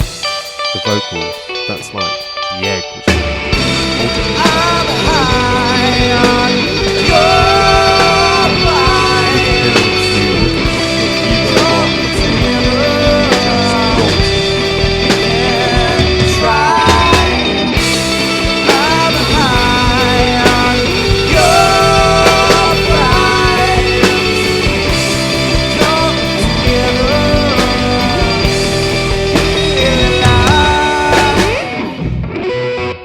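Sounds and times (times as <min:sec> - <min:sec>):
drums: 0:00.0 - 0:32.7
bass guitar: 0:00.0 - 0:33.0
electric guitar: 0:00.0 - 0:33.0
person singing lead: 0:00.7 - 0:03.2, 0:03.8 - 0:28.9, 0:29.6 - 0:31.9.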